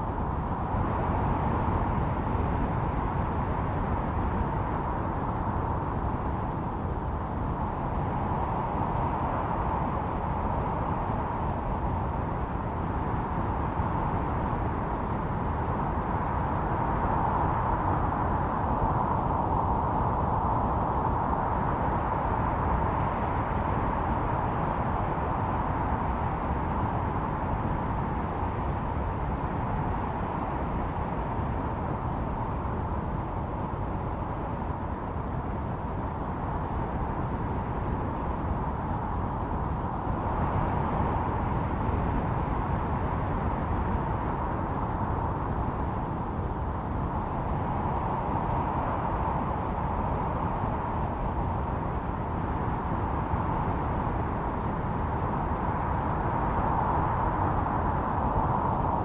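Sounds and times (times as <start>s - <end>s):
snowstorm wind howling: 0.0s - 59.0s.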